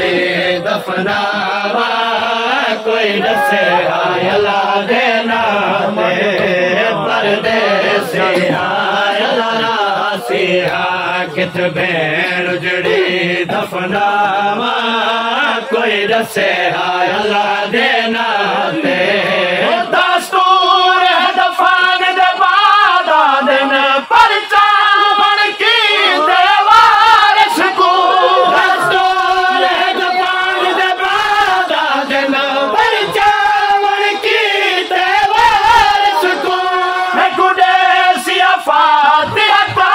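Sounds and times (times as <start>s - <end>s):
crowd singing along: 0.0s - 39.9s
men chanting a lament: 0.0s - 39.9s.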